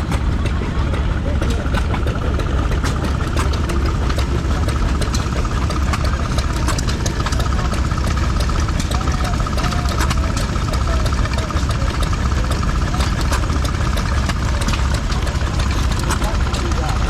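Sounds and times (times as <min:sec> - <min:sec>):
stationary engine throbbing: 0:00.0 - 0:17.0
sharp mechanical ticks: 0:01.4 - 0:17.0.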